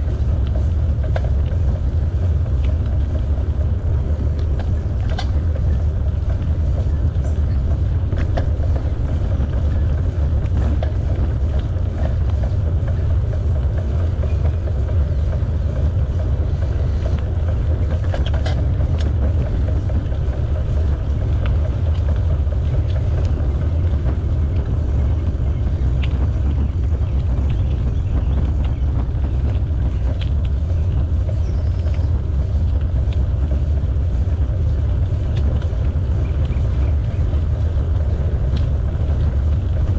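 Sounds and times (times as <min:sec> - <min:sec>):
bicycle tyre noise: 0:00.0 - 0:39.9
light clicks and rattles: 0:00.0 - 0:39.9
wind on microphone: 0:00.0 - 0:39.9.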